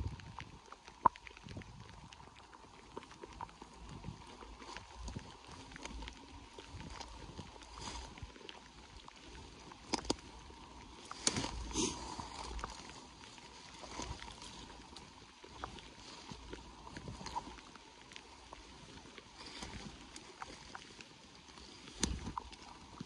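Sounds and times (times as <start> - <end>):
footsteps through wet grass: 3.9 - 23.0.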